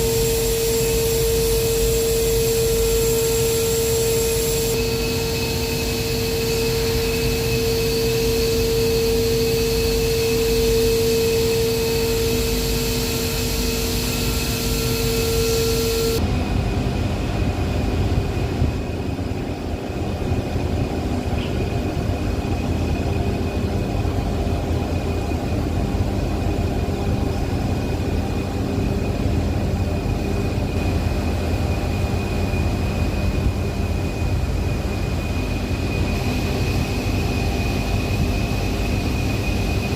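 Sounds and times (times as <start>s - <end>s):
industrial machine whine: 0.0s - 39.9s.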